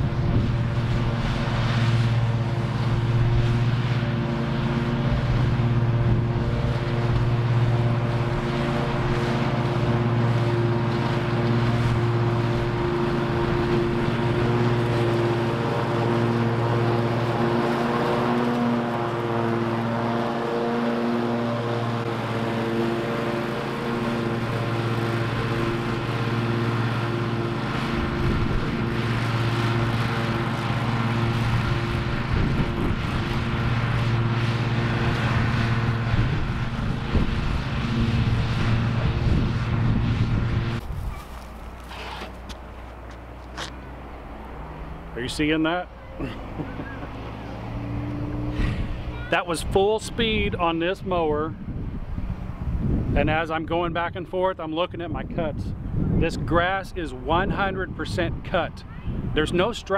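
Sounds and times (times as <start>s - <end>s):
mower engine droning: 0.0s - 59.9s.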